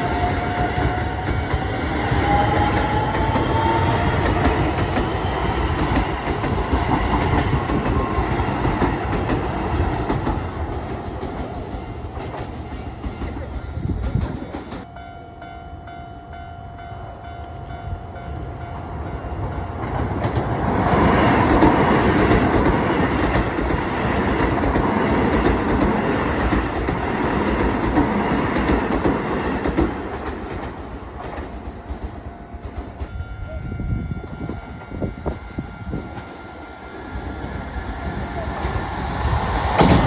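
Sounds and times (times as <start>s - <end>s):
crossing warning bell ringing: 0.0s - 10.0s, 10.9s - 29.0s, 31.8s - 38.5s
train wheels clattering over rails: 0.0s - 14.9s, 19.3s - 33.2s, 35.2s - 40.0s.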